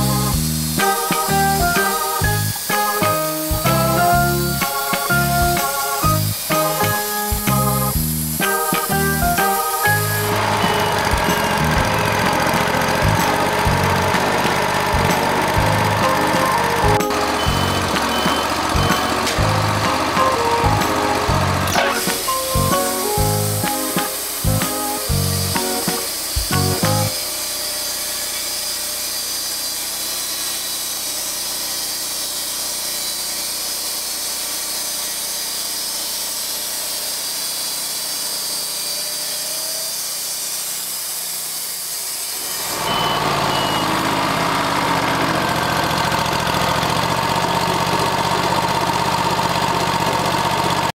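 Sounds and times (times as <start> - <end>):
band sawmill cutting log: 0.0 - 50.9.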